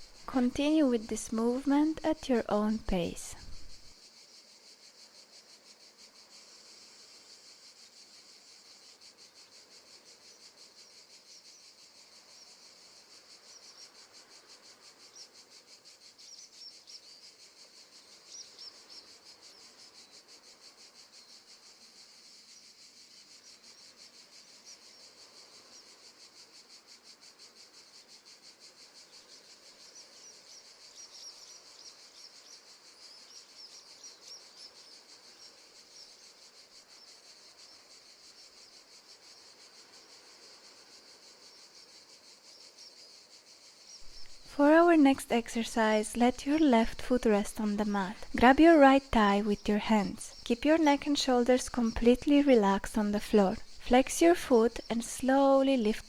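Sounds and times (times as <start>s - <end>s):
faint crickets trilling: 0.0s - 56.0s.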